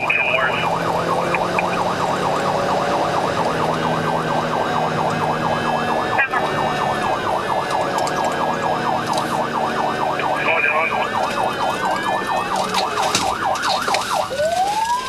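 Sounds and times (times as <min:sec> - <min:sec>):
engine hum: 0:00.0 - 0:15.0
police siren yelping: 0:00.0 - 0:15.0
slower siren tone: 0:00.0 - 0:15.0.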